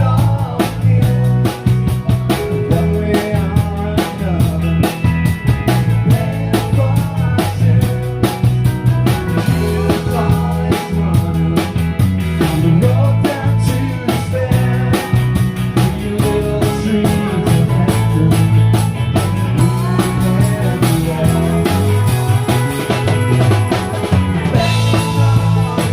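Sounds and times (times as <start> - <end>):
drum kit beat: 0.0 - 25.9
electric bass guitar: 0.0 - 25.9.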